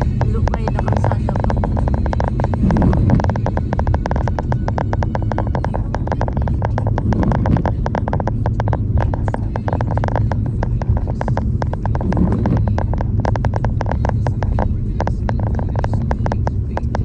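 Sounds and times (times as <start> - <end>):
car road and engine rumble: 0.0 - 17.0
raindrops striking car: 0.0 - 17.0.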